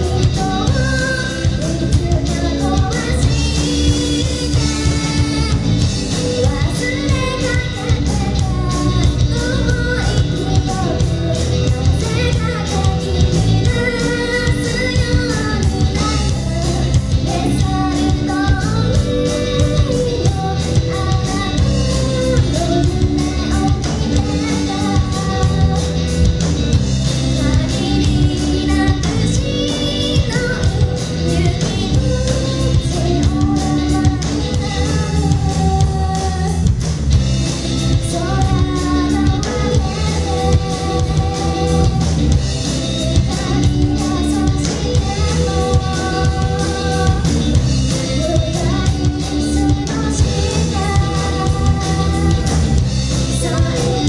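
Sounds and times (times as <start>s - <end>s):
person singing: 0.0s - 36.8s, 37.8s - 54.0s
drum kit: 0.0s - 54.0s
electric guitar: 0.0s - 54.0s.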